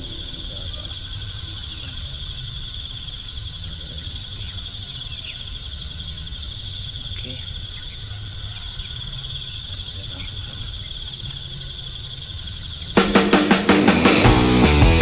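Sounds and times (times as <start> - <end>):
insects chirping: 0.0 - 14.2.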